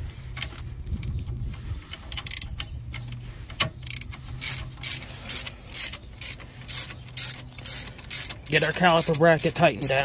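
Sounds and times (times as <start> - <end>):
hand ratchet clicking: 1.9 - 10.0.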